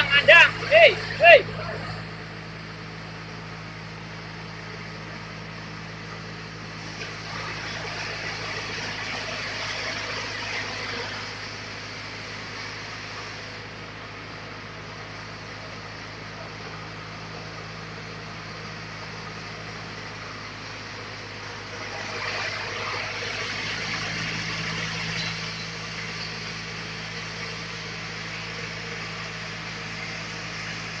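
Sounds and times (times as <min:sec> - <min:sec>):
sawmill machinery humming: 0:00.0 - 0:31.0.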